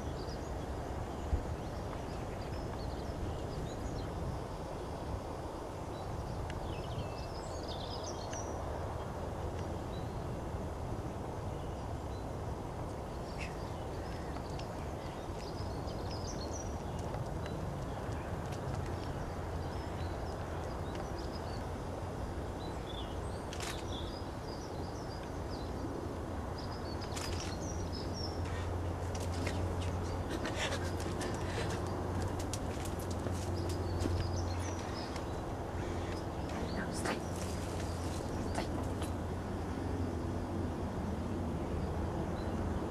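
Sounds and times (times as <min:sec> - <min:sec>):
small birds chirping: 0:00.0 - 0:10.3, 0:11.4 - 0:39.9.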